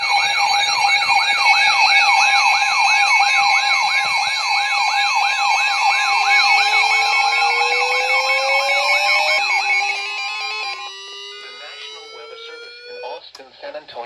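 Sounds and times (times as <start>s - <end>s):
electronic siren yelping: 0.0s - 13.2s.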